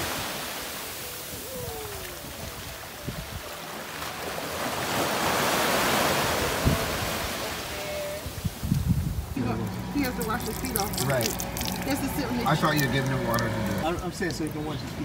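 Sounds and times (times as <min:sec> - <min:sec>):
small waves washing on sand: 0:00.0 - 0:15.0.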